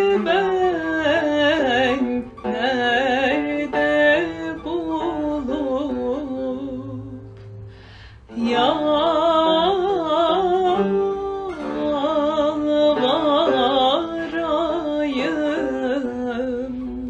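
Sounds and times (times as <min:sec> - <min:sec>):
woman singing with vibrato: 0:00.0 - 0:07.4, 0:08.2 - 0:17.0
soft string accompaniment: 0:00.0 - 0:17.0.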